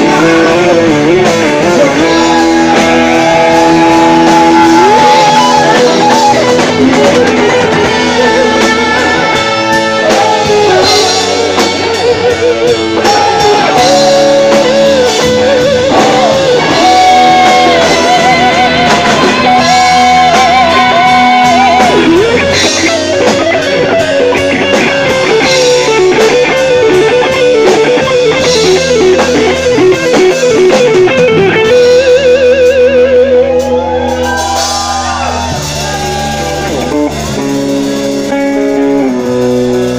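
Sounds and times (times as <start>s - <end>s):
electric guitar bent notes: 0.0s - 39.9s
live rock band playing: 0.0s - 39.9s.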